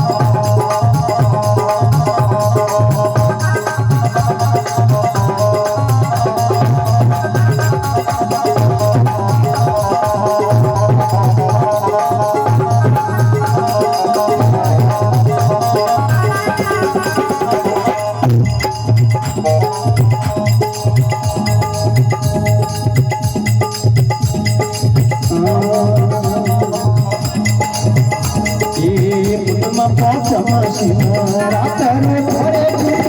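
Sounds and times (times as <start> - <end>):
hand drum beat: 0.0 - 33.0
melodic instrumental line: 0.0 - 33.0.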